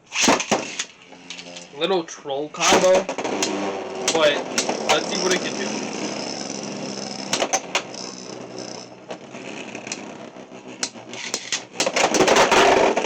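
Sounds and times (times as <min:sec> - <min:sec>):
spinning tops whirring: 0:00.0 - 0:01.8, 0:02.6 - 0:13.0.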